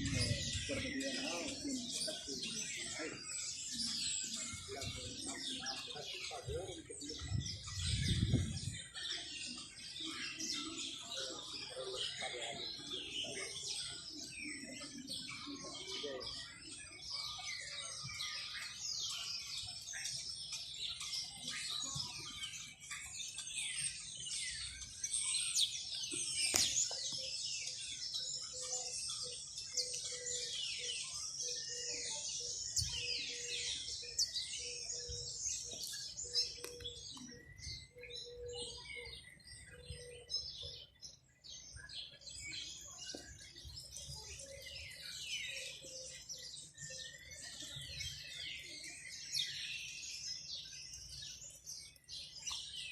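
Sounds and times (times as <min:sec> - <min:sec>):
small birds chirping chorus: 0:00.0 - 0:52.9.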